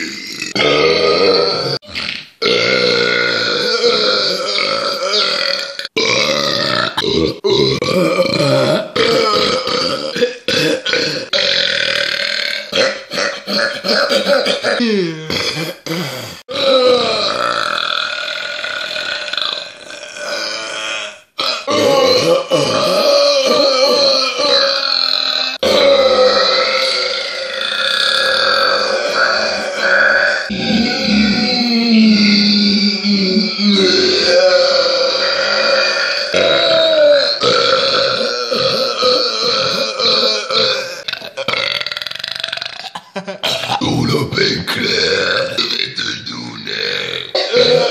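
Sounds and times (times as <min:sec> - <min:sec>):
person belching: 0:00.0 - 0:47.9
person burping loudly: 0:00.0 - 0:47.9.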